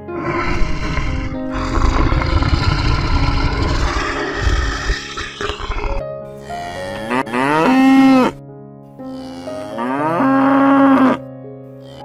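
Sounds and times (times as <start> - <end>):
cow mooing: 0.1 - 8.4, 9.1 - 11.2.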